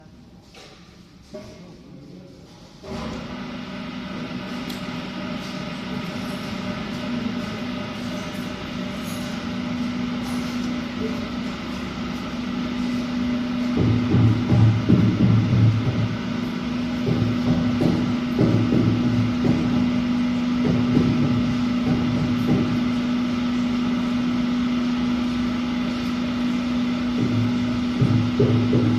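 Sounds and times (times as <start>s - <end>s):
washing machine humming: 2.8s - 28.9s.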